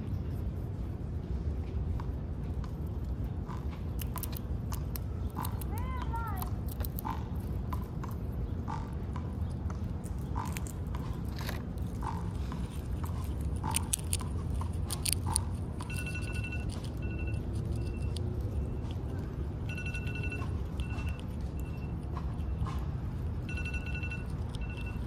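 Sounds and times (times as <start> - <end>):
low background rumble: 0.0 - 25.0
squirrel chewing and cracking nuts: 0.0 - 25.0.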